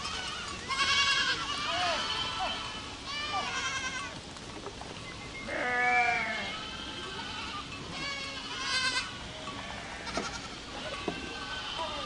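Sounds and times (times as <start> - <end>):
goats bleating: 0.0 - 4.2, 5.4 - 12.0.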